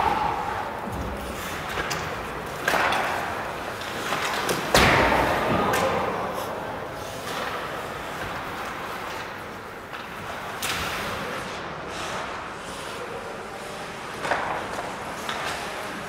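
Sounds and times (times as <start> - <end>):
puck banging rink boards: 0.0 - 12.4, 14.0 - 16.0.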